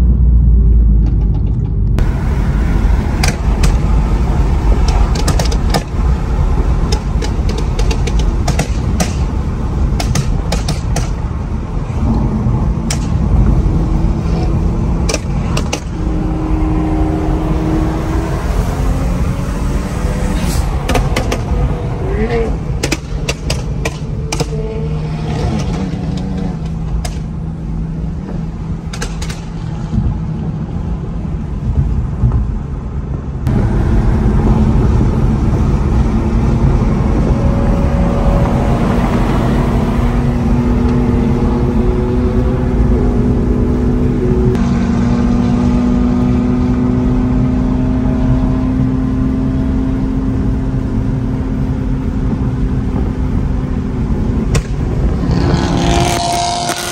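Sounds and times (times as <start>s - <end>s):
car engine: 0.0s - 56.9s
road noise: 0.0s - 56.9s.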